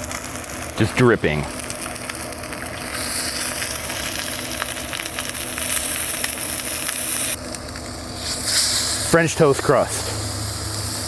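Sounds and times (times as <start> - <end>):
steak sizzling on cast iron: 0.0 - 11.0.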